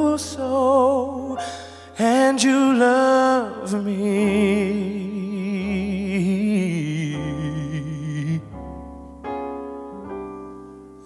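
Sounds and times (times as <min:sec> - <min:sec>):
keyboard chords and bass: 0:00.0 - 0:11.0.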